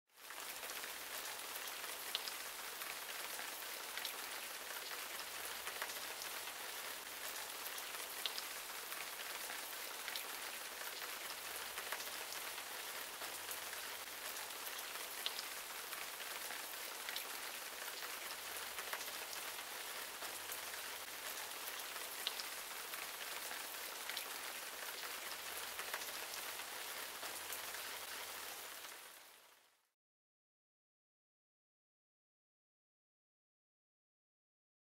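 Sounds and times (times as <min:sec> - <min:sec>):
steady rain hiss: 0:00.2 - 0:29.8.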